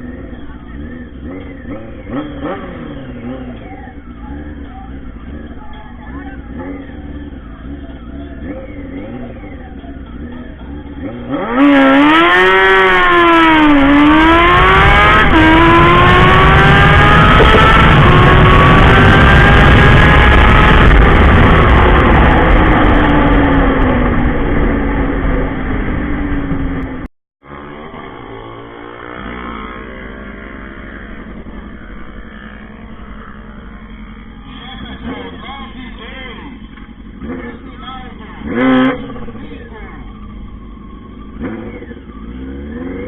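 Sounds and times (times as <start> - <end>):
motorcycle engine revving hard: 0.0 - 3.6, 10.2 - 40.4, 41.1 - 43.0
quieter engine running: 0.0 - 43.0.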